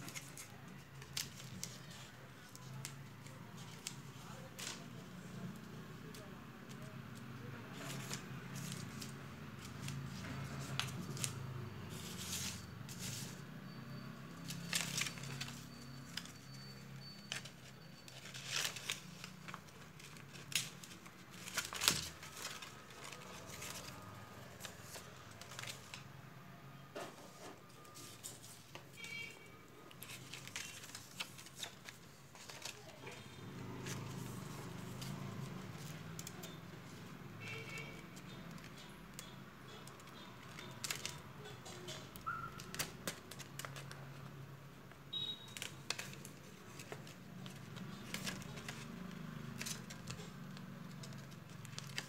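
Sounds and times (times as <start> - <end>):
stiff paper rustling and crinkling: 0.0 - 5.3, 7.6 - 13.4, 14.4 - 26.1, 27.1 - 44.3, 45.2 - 52.0.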